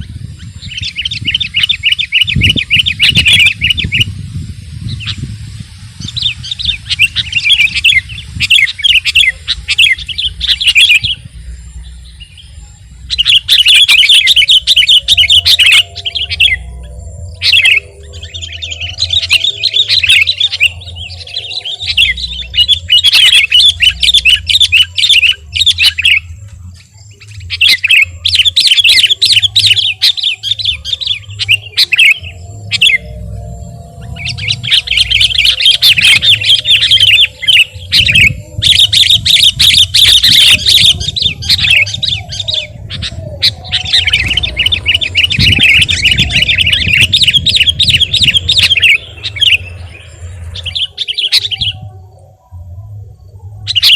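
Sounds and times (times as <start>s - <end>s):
bulbul singing: 0.0s - 53.9s.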